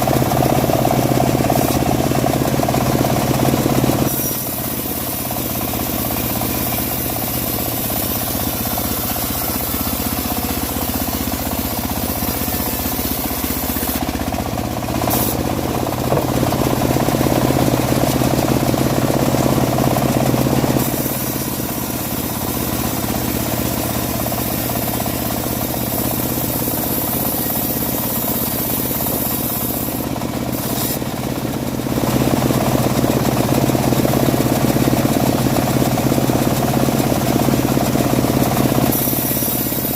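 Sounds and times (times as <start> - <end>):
bandsaw mill sawing wood: 0.0 - 39.9.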